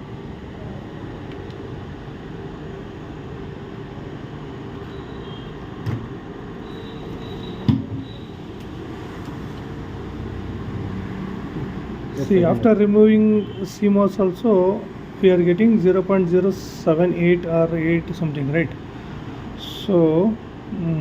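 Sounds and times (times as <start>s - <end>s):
steady room hum: 0.0s - 21.0s.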